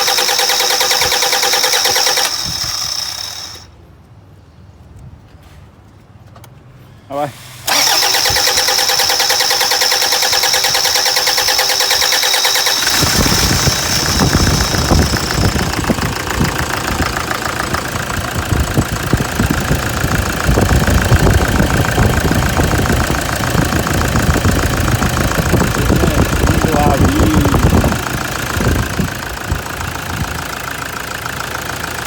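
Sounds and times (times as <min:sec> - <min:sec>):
diesel engine idling: 0:00.0 - 0:03.7, 0:07.7 - 0:32.0
starter motor whine: 0:00.0 - 0:03.7, 0:07.7 - 0:31.0.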